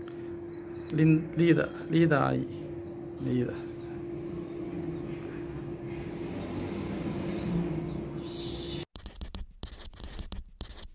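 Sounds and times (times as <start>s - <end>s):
steady tonal hum: 0.0s - 8.9s.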